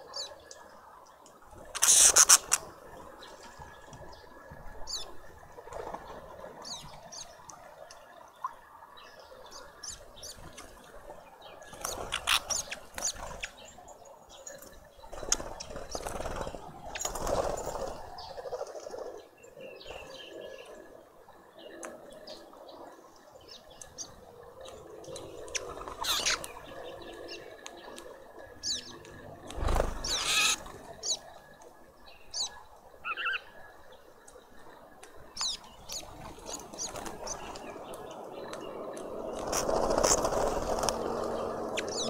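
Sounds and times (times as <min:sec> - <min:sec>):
small birds chirping: 0:00.0 - 0:05.9, 0:06.6 - 0:42.0.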